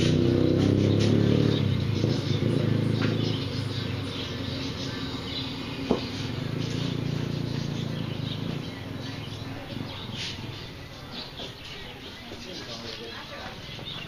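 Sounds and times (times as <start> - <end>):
low motor hum: 0.0 - 11.6
birds chirping: 0.0 - 14.0.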